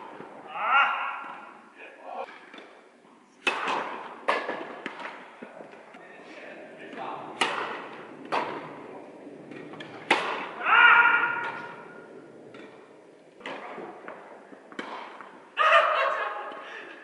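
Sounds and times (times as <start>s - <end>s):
tennis ball hits echoing: 0.0s - 2.8s, 3.4s - 5.8s, 6.8s - 15.6s.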